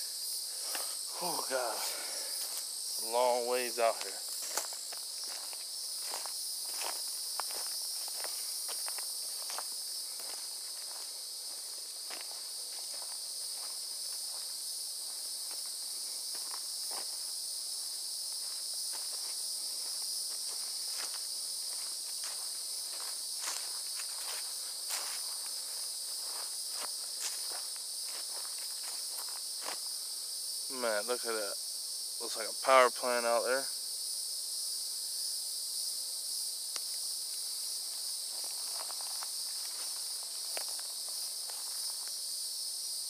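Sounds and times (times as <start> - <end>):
high-pitched insect chorus: 0.0 - 43.0
footsteps through grass and sand: 0.2 - 30.6, 37.1 - 43.0.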